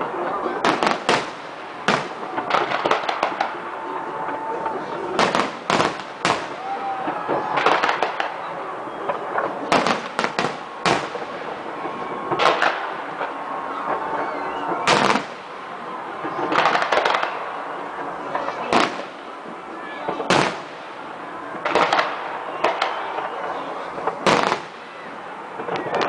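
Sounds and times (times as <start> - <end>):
fireworks bangs: 0.0 - 26.0
steady background hiss: 0.0 - 26.0.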